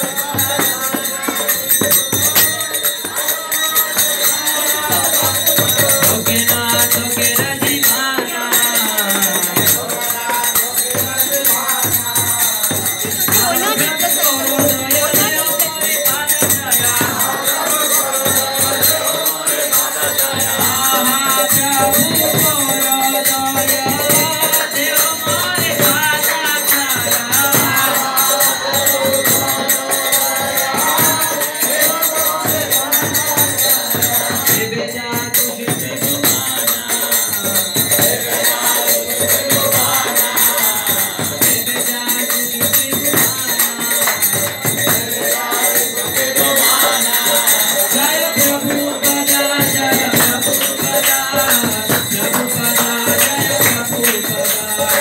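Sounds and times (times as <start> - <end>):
group of voices singing: 0.0 - 55.0
metallic jingle of hand percussion: 0.0 - 55.0.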